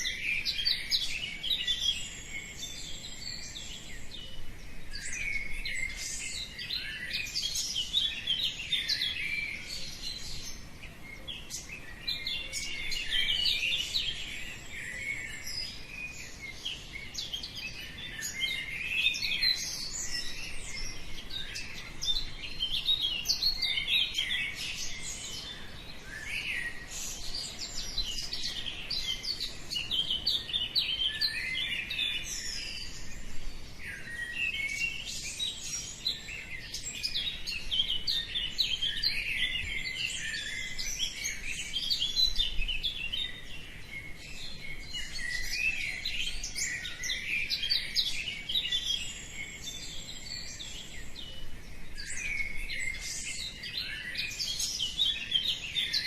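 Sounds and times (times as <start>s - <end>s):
small birds chirping and trilling: 0.0s - 56.0s.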